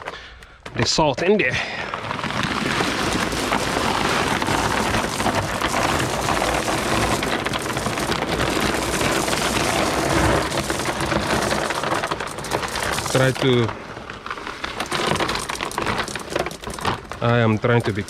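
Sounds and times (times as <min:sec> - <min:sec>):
salt grains pouring and clicking: 0:02.0 - 0:18.0.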